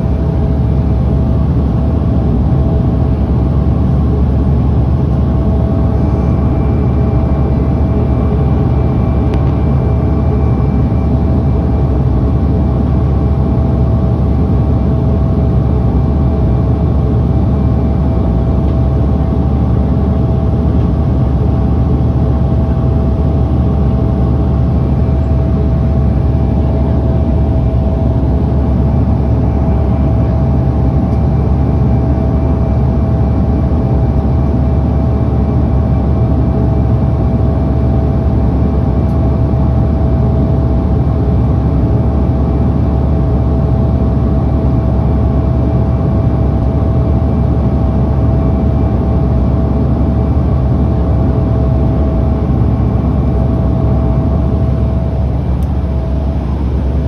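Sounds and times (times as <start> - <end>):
turboprop cabin drone: 0.0 - 57.0.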